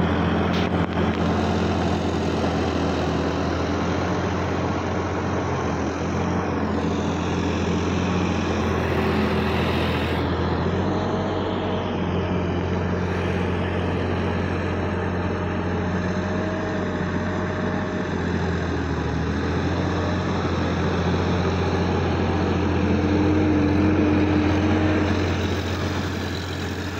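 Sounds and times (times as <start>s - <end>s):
tractor diesel engine under load: 0.0s - 26.9s.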